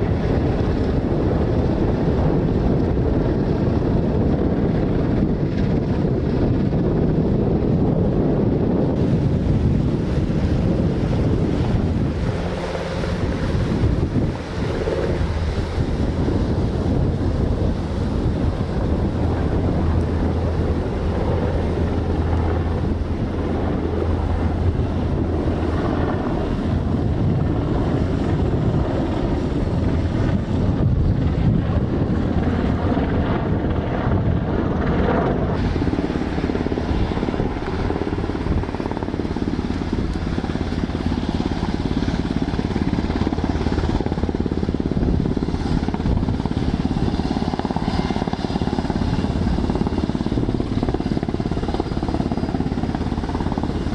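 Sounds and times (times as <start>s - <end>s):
helicopter rotor and engine hum: 0.0s - 53.9s.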